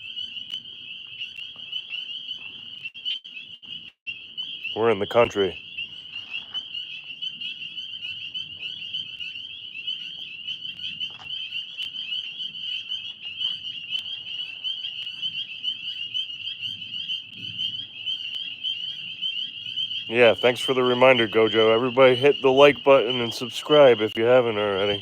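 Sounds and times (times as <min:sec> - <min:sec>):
tree frogs trilling: 0:00.0 - 0:25.0.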